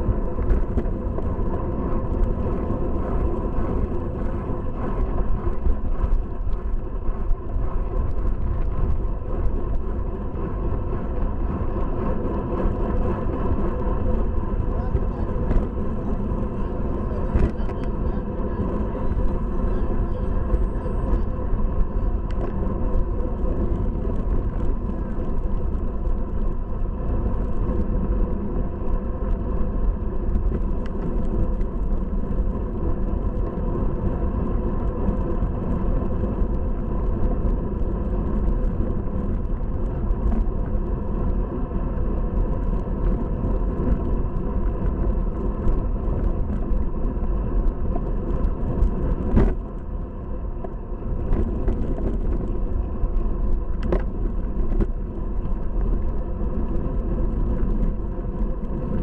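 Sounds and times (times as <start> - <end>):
bicycle road noise: 0.0 - 59.0.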